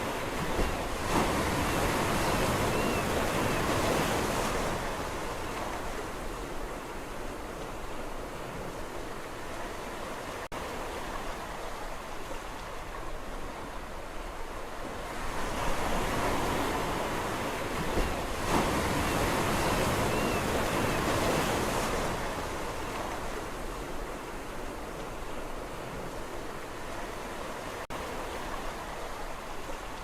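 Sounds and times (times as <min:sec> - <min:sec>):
sea waves on shore: 0:00.0 - 0:30.0.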